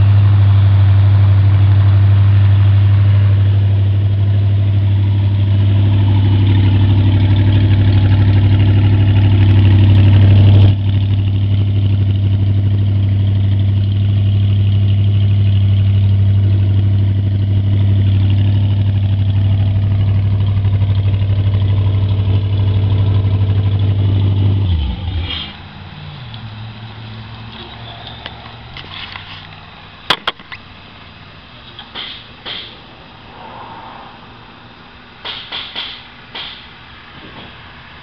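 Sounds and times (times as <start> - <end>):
marine engine running: 0.0 - 35.3.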